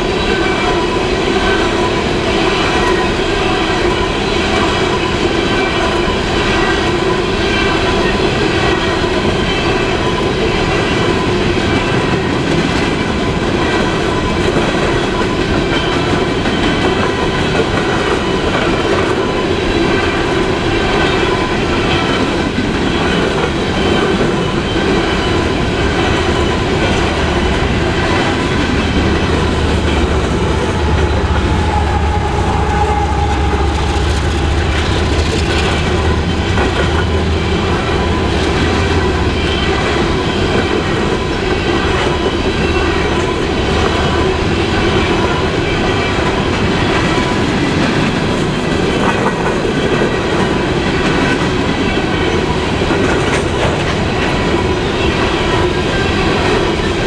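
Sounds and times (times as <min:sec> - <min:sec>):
high ringing from train wheels: 0:00.0 - 0:57.0
wheel and rail rumble: 0:00.0 - 0:57.0.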